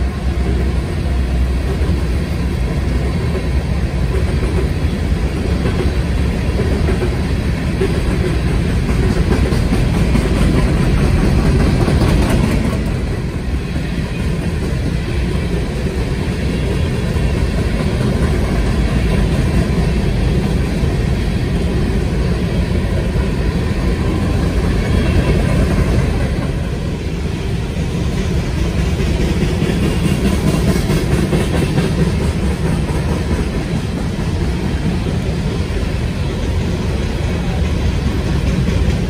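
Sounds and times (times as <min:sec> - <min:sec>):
freight train rolling on rails: 0:00.0 - 0:39.0.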